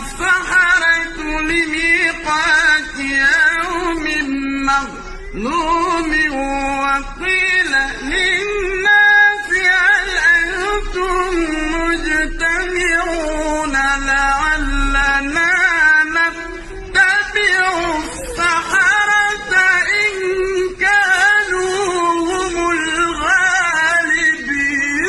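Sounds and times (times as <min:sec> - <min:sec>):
person chanting melodically: 0:00.0 - 0:25.0.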